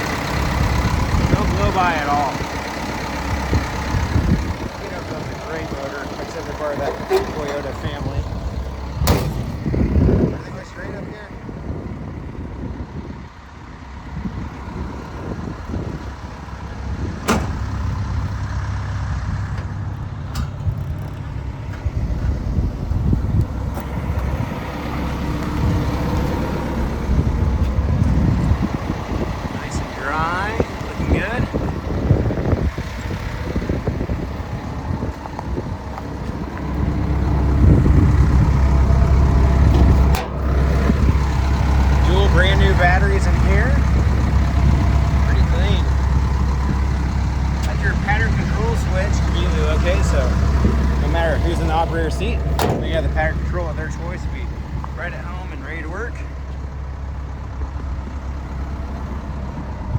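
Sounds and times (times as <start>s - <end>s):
excavator diesel engine idling: 0.0s - 59.9s.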